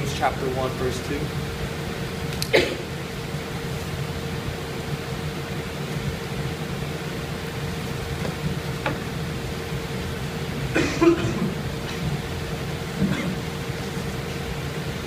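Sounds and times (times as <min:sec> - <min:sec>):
faint steady whine: 0:00.0 - 0:15.0
low hum and hiss: 0:00.0 - 0:15.0.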